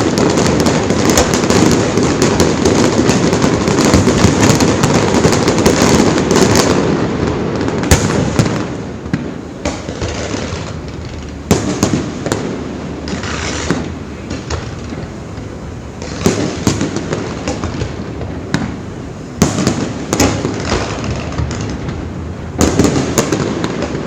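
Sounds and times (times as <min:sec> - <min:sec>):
fireworks crackling and booming: 0:00.0 - 0:24.0
fireworks sharp bangs: 0:00.0 - 0:24.0.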